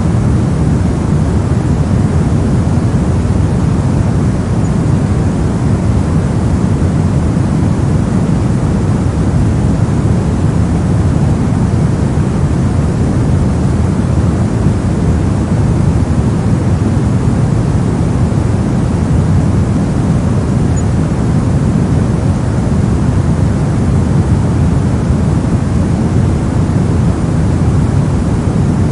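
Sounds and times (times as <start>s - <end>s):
brown noise: 0.0s - 28.9s.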